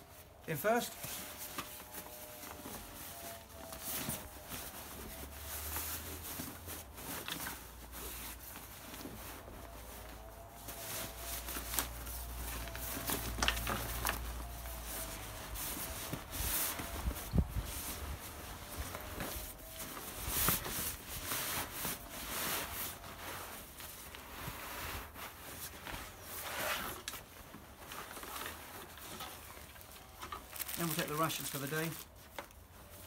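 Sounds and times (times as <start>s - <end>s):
fabric rustling: 0.0s - 33.0s.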